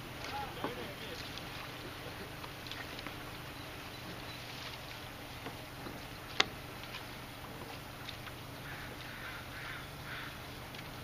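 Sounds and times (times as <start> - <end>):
water lapping and splashing: 0.0 - 11.0.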